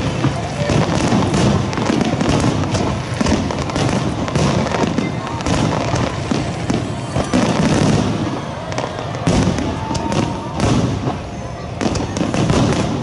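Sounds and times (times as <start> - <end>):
continuous rumble: 0.0 - 13.0
firework shells bursting: 0.0 - 13.0.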